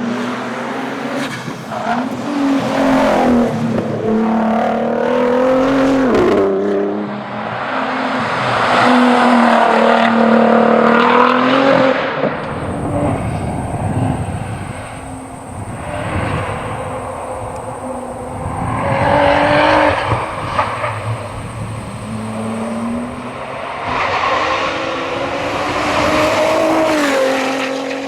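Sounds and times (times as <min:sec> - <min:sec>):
race car engine running hard: 0:00.0 - 0:08.7, 0:09.3 - 0:28.0.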